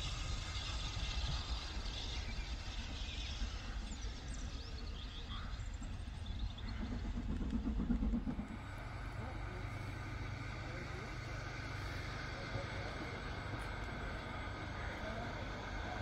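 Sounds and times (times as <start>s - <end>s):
steam train rumble: 0.0s - 16.0s.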